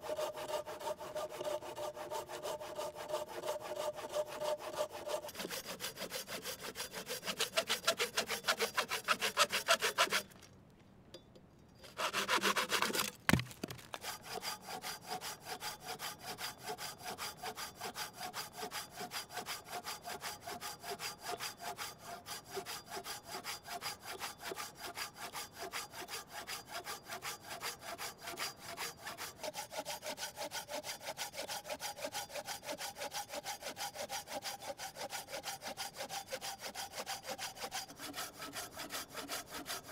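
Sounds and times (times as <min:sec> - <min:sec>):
hand saw cutting wood: 0:00.0 - 0:10.4, 0:11.8 - 0:39.9.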